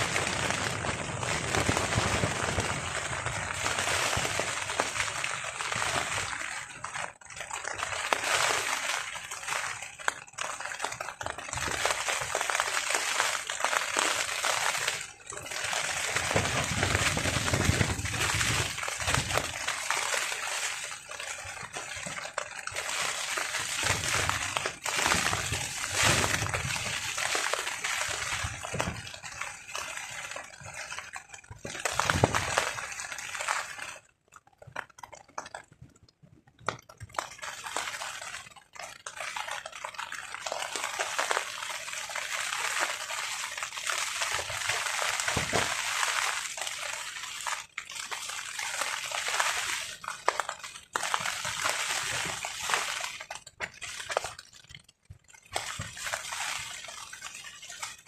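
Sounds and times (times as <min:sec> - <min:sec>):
rain on a tarp: 0:00.0 - 0:58.0.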